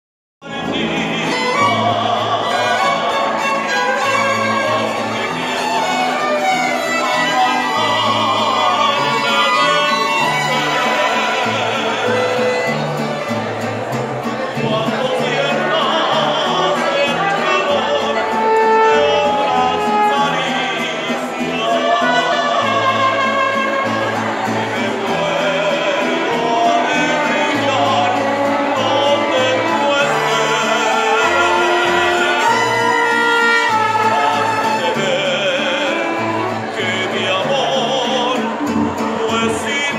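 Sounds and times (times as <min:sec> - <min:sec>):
mariachi band playing: 0:00.4 - 0:39.9.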